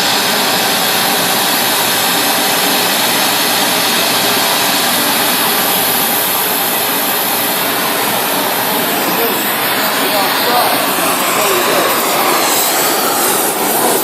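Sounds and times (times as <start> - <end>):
gas torch roaring: 0.0 - 14.0.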